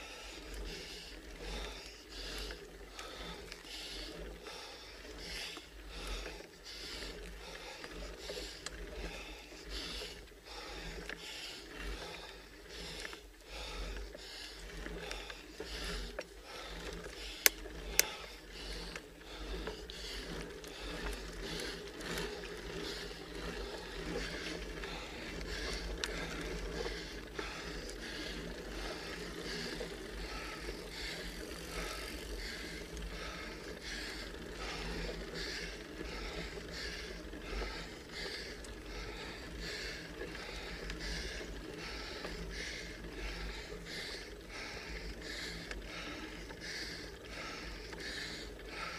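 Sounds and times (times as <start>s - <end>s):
bicycle drivetrain clicking and scraping: 0.0s - 48.9s.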